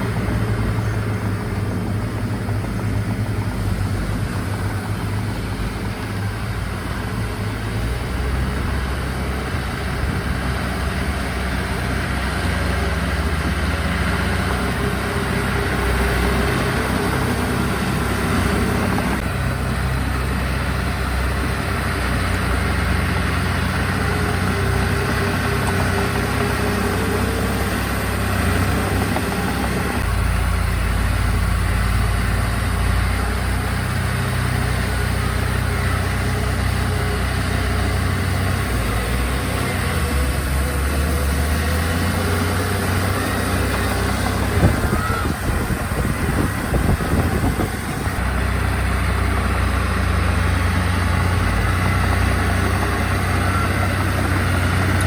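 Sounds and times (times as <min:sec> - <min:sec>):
earthmoving machine engines: 0:00.0 - 0:55.0.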